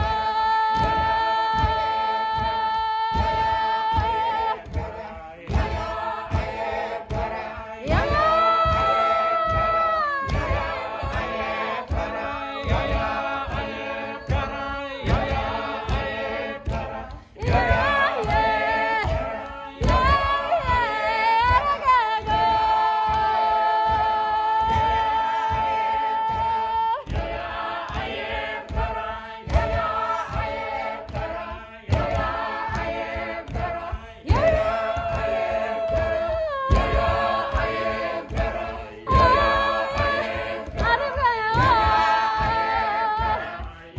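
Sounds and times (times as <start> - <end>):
voices singing a cappella: 0.0 - 43.9.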